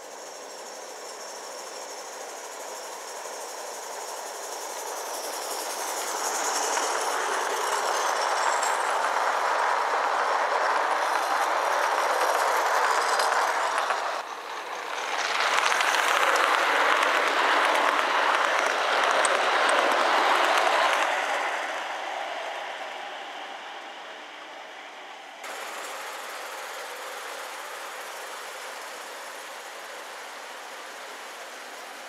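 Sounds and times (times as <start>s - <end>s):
model train wheels on rails: 0.0s - 32.0s.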